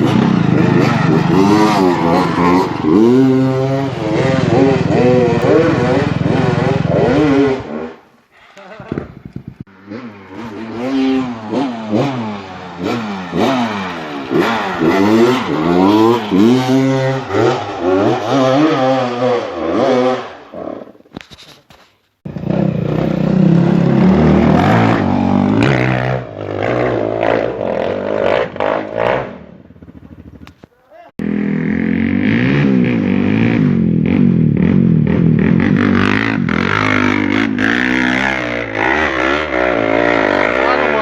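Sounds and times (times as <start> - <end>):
dirt bike engine revving: 0.0 - 8.1, 9.0 - 21.0, 22.3 - 30.4, 31.2 - 41.0
motorcycle engine under heavy throttle: 0.0 - 8.1, 8.8 - 21.2, 22.2 - 41.0.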